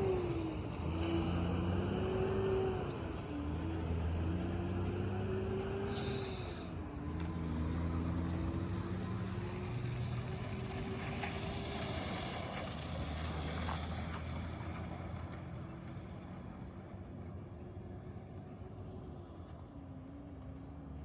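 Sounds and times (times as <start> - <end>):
diesel truck engine pulling away: 0.0 - 21.0.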